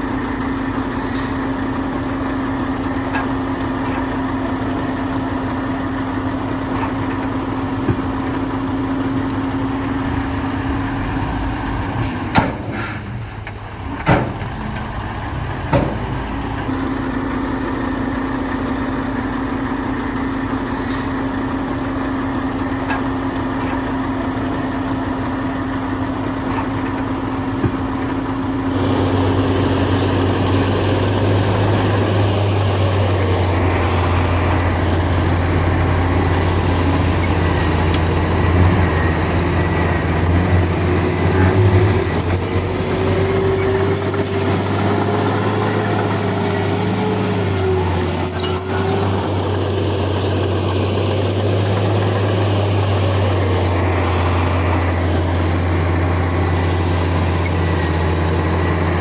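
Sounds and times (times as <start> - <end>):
deeper louder engine: 0.0 - 59.0
heavy machinery diesel engines: 0.0 - 59.0.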